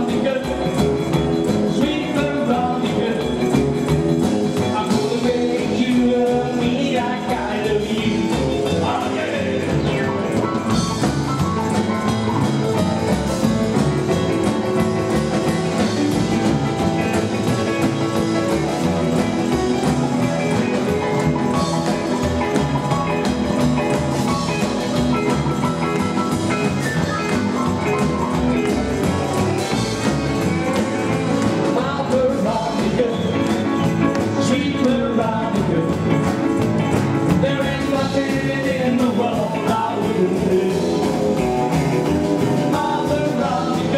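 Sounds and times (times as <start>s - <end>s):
live rockabilly band playing: 0.0s - 43.9s
stage piano: 0.0s - 43.9s.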